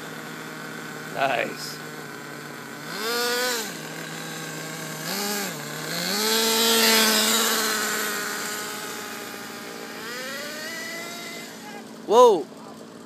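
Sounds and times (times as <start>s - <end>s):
toy car motor whining: 0.0s - 13.0s.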